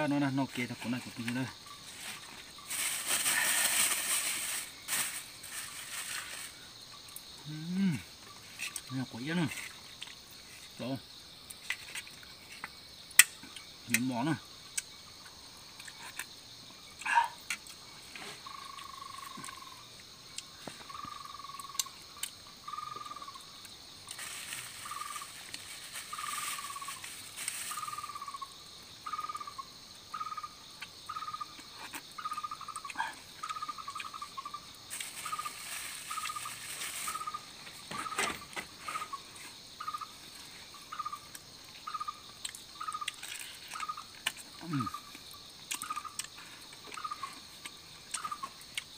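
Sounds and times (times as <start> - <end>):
drone of forest insects: 0.0 - 48.9.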